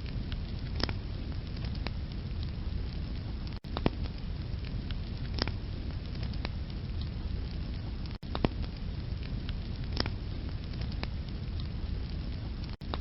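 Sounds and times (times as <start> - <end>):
sharp pops from fire: 0.0 - 13.0
wood fire crackling: 0.0 - 13.0.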